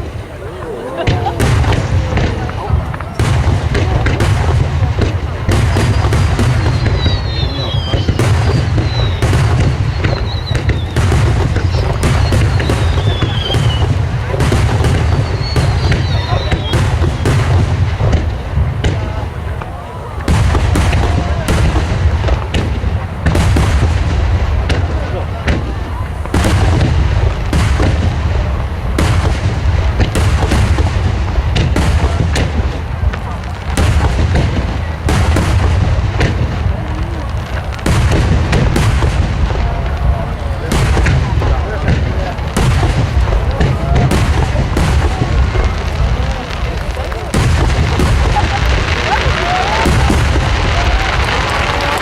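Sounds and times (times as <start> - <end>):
fireworks rumbling bursts: 0.0 - 52.0
fireworks sharp bangs: 0.0 - 52.0
fireworks whistling: 0.0 - 52.0.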